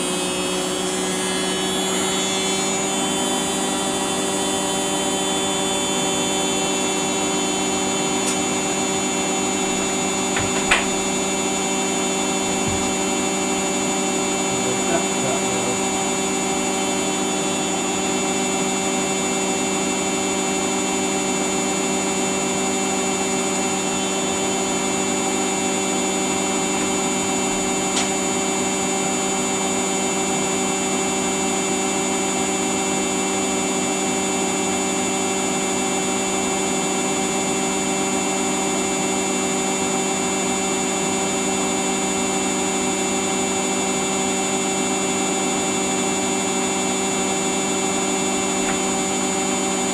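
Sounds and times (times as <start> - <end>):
appliance motor humming and whining: 0.0 - 49.9.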